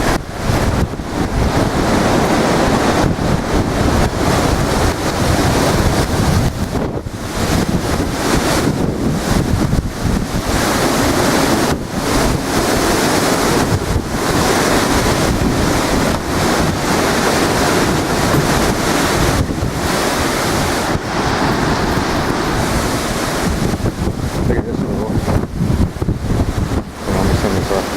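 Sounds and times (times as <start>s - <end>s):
strong wind buffeting microphone: 0.0s - 27.9s.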